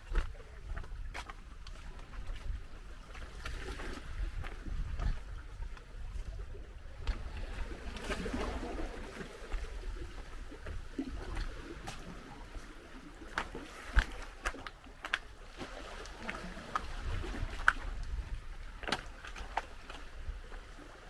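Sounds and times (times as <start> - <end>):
sea water washing at shoreline: 0.0 - 21.0
wind rumbling on microphone: 0.0 - 21.0.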